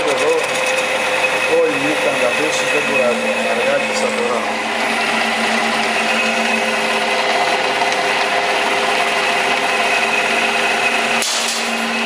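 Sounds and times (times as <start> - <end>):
metal lathe motor humming: 0.0 - 12.0.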